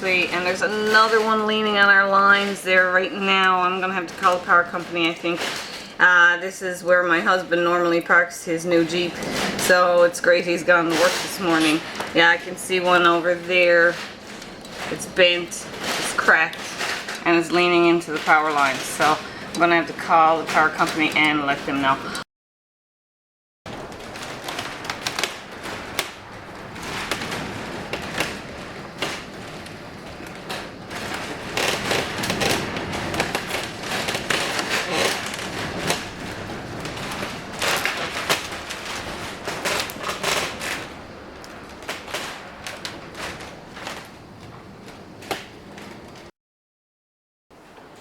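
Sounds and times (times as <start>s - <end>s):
rain tapping: 0.0s - 22.2s, 23.7s - 46.3s
storm wind: 0.0s - 22.2s, 23.7s - 46.3s.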